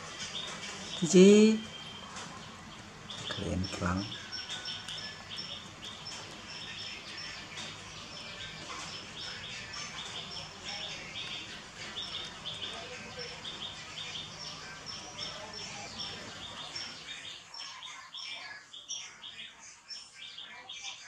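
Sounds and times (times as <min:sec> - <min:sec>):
birds chirping rapidly: 0:00.0 - 0:21.0.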